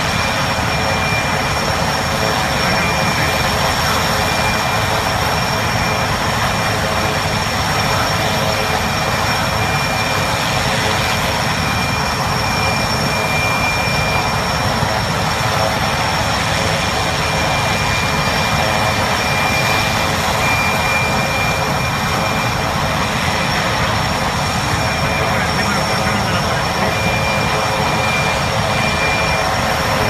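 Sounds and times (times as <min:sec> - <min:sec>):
helicopter engines and rotors: 0:00.0 - 0:30.0.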